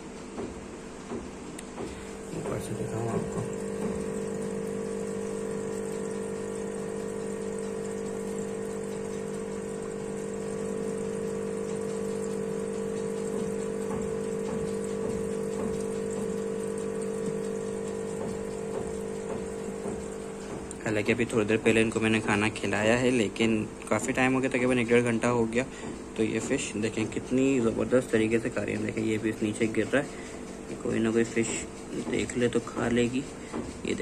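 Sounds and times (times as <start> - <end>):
aquarium pump humming: 0.0 - 34.0.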